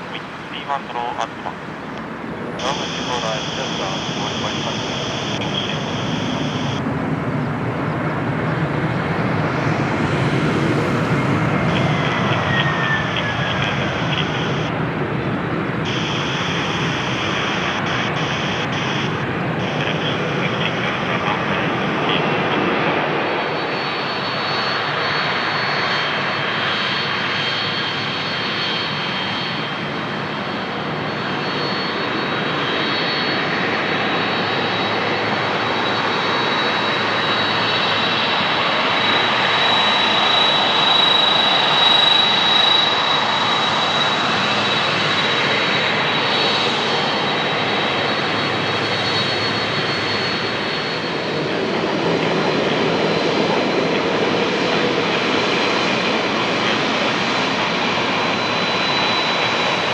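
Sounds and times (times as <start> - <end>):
jet engine roar with fan whine: 0.0 - 59.9.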